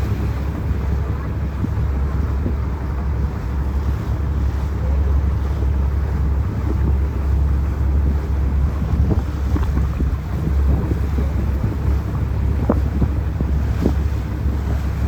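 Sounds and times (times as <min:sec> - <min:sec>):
rush of water: 0:00.0 - 0:15.0
wind buffeting microphone: 0:00.0 - 0:15.0.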